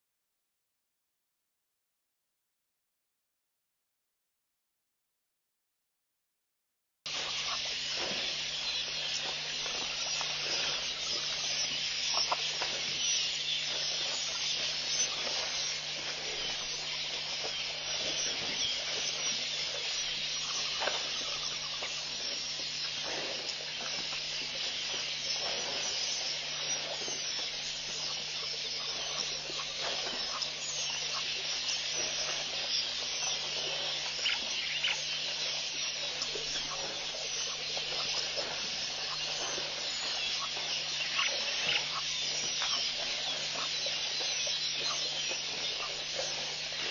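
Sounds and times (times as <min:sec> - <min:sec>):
insects buzzing chorus: 0:07.1 - 0:46.9
low electrical hum: 0:07.1 - 0:46.9.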